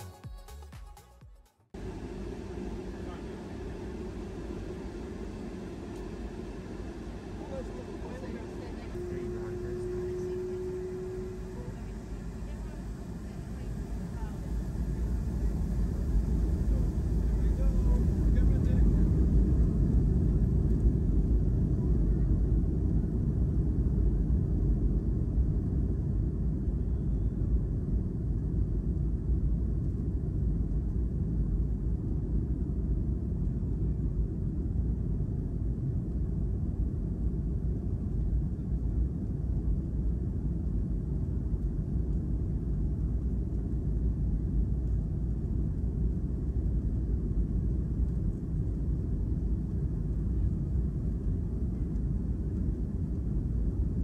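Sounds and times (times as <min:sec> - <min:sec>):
aircraft cabin engine drone: 0:01.7 - 0:54.0
aircraft rolling noise: 0:01.8 - 0:54.0.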